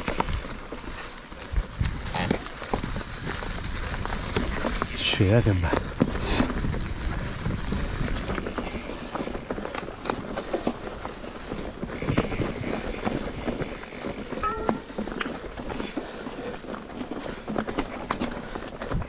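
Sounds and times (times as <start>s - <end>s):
bike rattling and knocking: 0.0s - 19.0s
bike tyres crunching: 0.0s - 19.0s.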